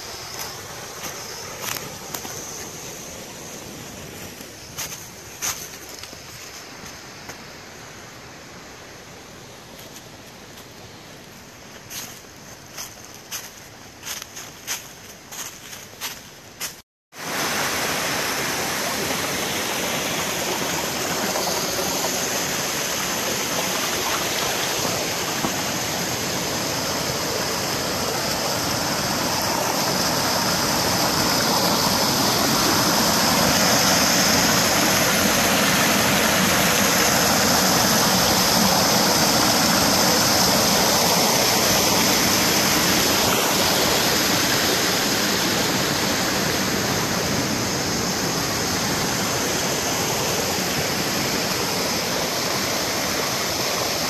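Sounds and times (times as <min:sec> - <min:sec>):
creek rushing over boulders: 0:00.0 - 0:08.2, 0:17.2 - 0:54.0.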